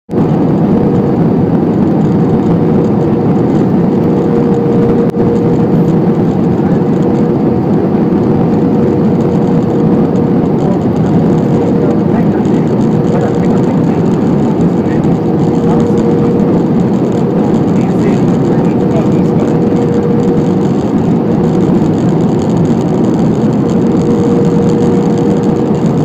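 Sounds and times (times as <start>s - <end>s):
jet engines and airflow rushing: 0.1s - 26.0s
steady hum: 0.1s - 26.0s.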